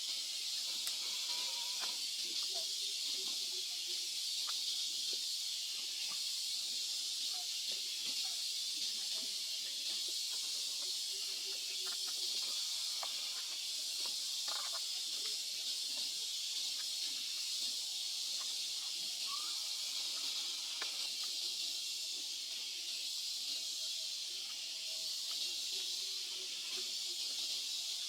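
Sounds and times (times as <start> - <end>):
high-pitched outdoor hiss: 0.0 - 28.0.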